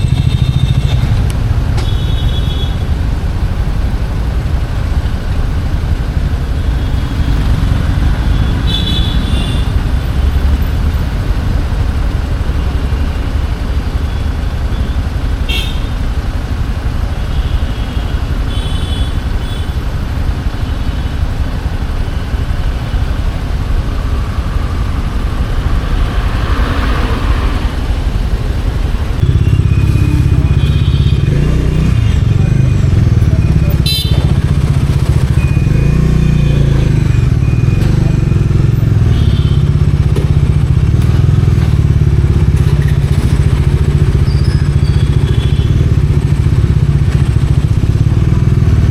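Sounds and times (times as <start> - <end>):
motorcycle engine rumble: 0.0 - 48.9
road wind: 0.0 - 48.9.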